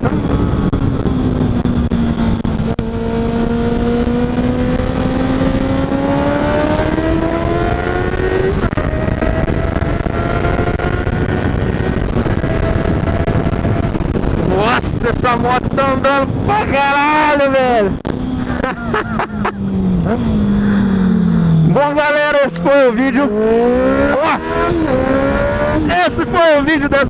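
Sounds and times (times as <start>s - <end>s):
wind rush on microphone: 0.0s - 21.7s
motorcycle engine accelerating: 0.0s - 27.0s.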